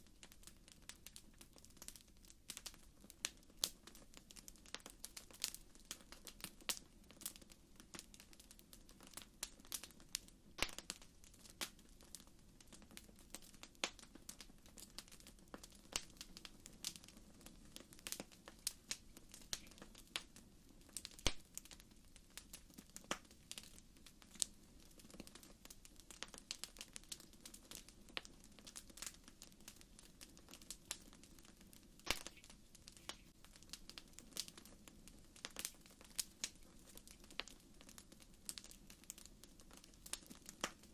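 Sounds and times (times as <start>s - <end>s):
fire pops and snaps: 0.1s - 40.9s.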